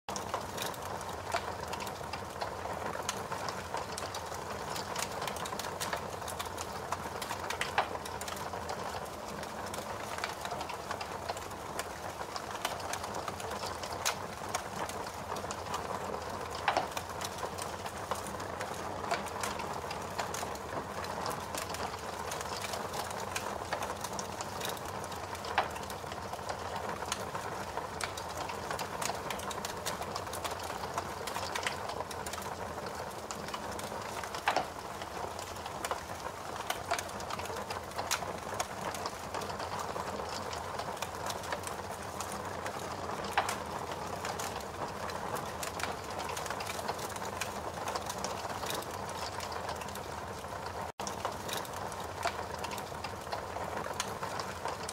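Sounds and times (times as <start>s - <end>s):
fire crackling and popping: 0.1s - 54.9s.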